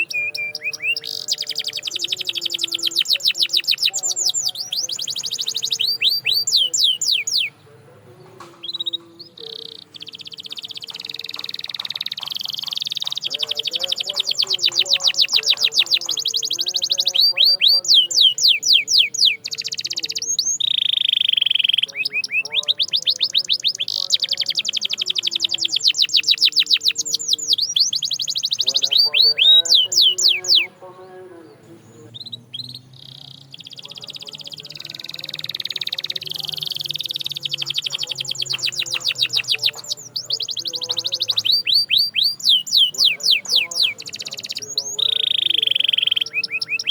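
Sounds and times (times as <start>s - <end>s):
canary singing: 0.0s - 46.9s.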